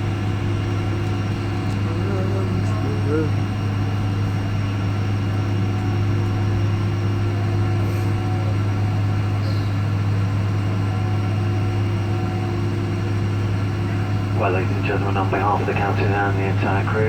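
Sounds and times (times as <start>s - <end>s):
airplane cabin drone: 0.0s - 17.0s.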